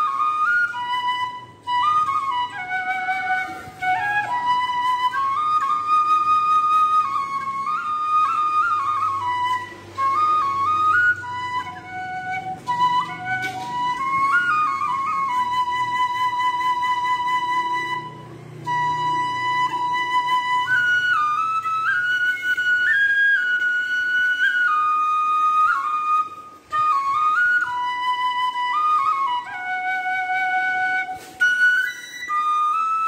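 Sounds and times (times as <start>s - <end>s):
instrumental melody of held notes: 0.0s - 33.0s.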